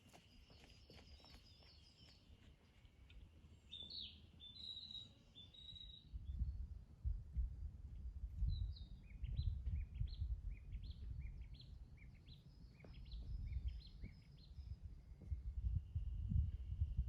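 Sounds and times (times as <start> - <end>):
songbird chirping: 0.0 - 6.2, 8.5 - 16.4.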